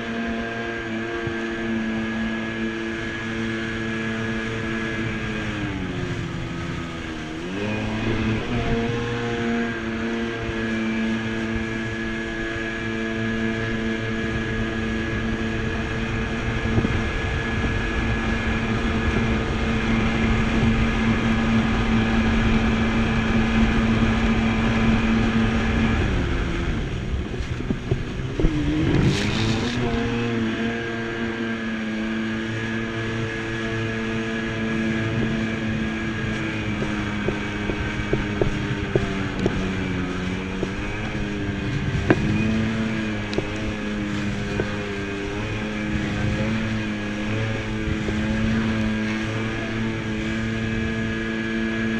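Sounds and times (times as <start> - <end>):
jet ski engine running: 0.0 - 51.9.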